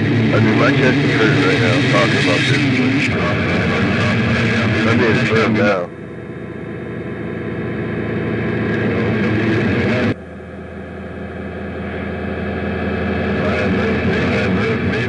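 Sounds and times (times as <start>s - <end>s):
dense droning noise: 0.0s - 15.0s.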